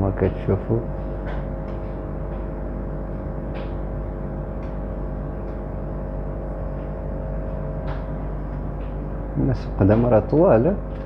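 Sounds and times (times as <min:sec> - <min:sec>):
steady low drone: 0:00.0 - 0:11.0.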